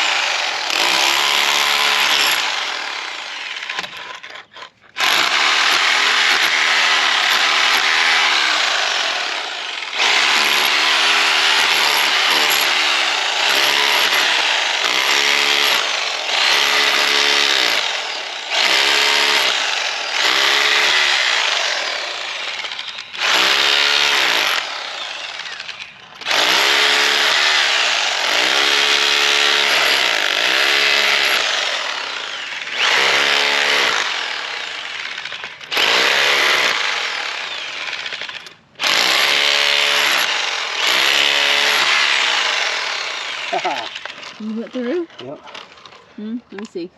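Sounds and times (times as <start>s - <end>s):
hammer drill hammering into concrete: 0.0s - 46.0s.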